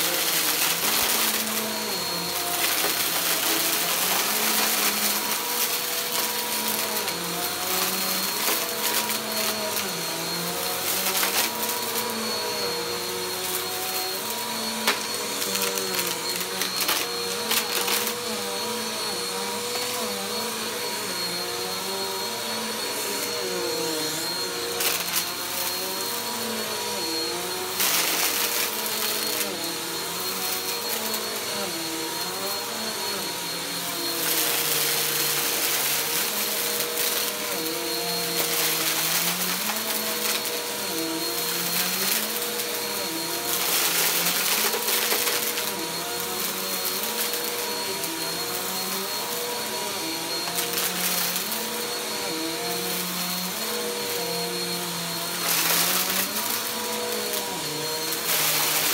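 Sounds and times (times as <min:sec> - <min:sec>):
vacuum cleaner running on carpet: 0:00.0 - 0:58.9.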